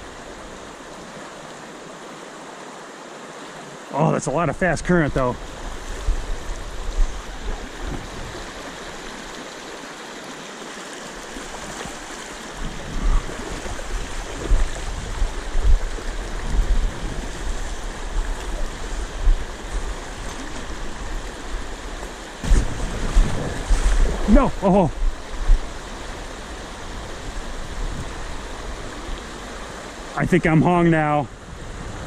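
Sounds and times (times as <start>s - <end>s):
river rushing over rocks: 0.0s - 32.0s.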